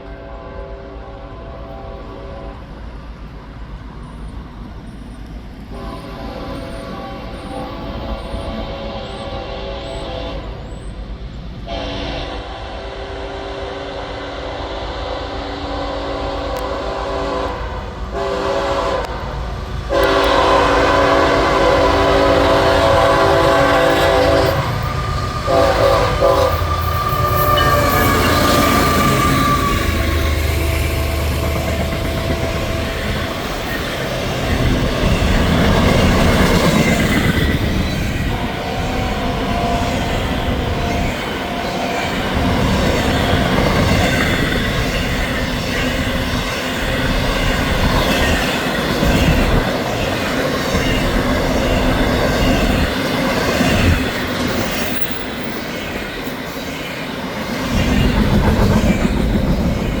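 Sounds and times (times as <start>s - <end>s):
freight train rumbling past: 0.0s - 60.0s.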